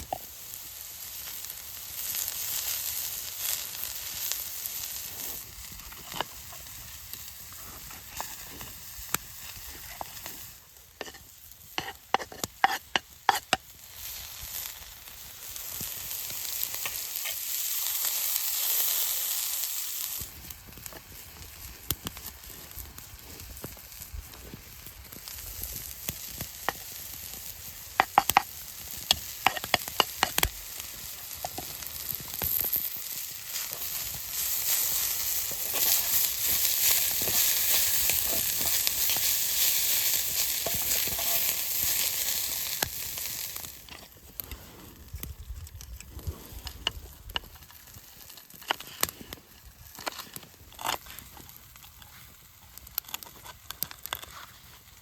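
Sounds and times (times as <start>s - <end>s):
food sizzling in pan: 0.0s - 44.7s.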